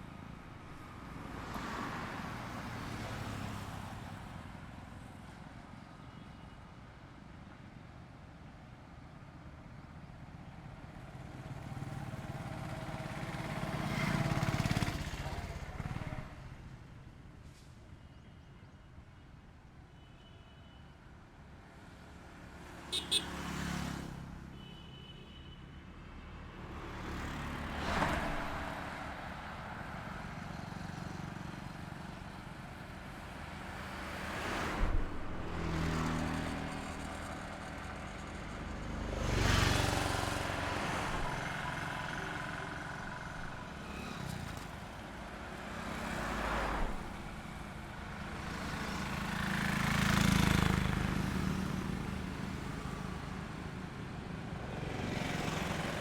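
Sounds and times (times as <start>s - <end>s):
vehicles passing on highway: 0.0s - 5.8s, 9.1s - 18.0s, 21.2s - 56.0s.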